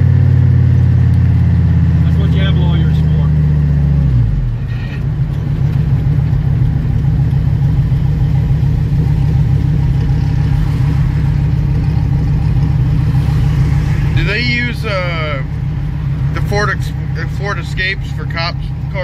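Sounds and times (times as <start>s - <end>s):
car engine idling rumble: 0.0s - 19.0s.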